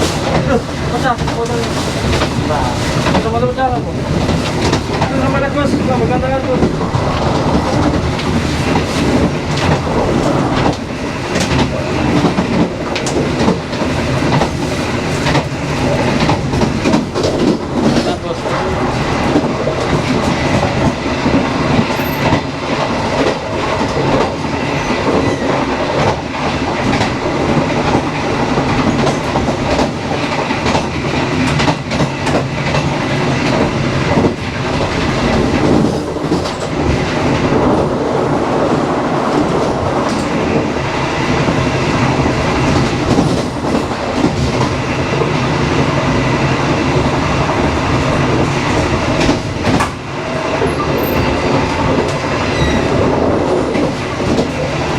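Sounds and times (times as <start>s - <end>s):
train rumbling at speed: 0.0s - 54.9s
wheels clacking over rail joints: 0.0s - 54.9s.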